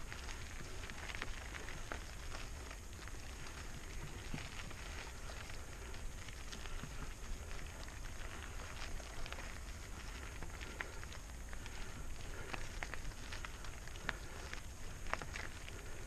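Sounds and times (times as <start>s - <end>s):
bike tyres crunching on gravel: 0.0s - 16.0s
stones ticking: 0.0s - 16.0s.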